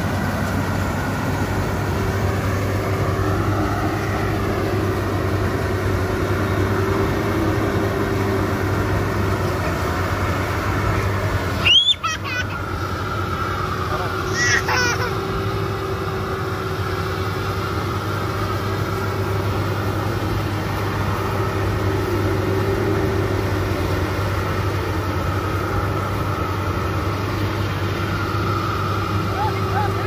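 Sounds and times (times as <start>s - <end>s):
combine harvester engine droning: 0.0s - 30.0s.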